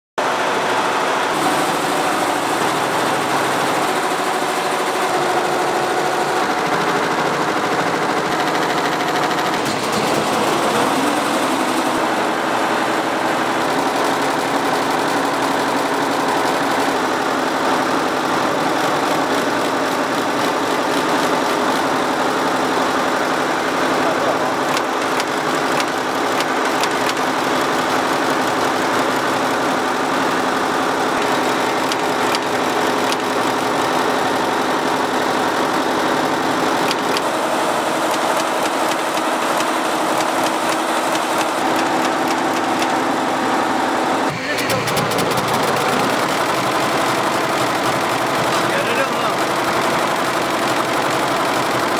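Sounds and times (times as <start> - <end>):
embroidery machine clattering: 0.2 - 51.9.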